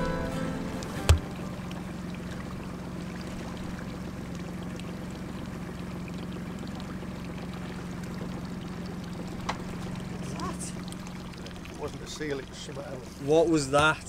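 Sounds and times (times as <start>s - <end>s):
boat engine idling: 0.0s - 14.0s
water lapping against hull: 0.0s - 14.0s.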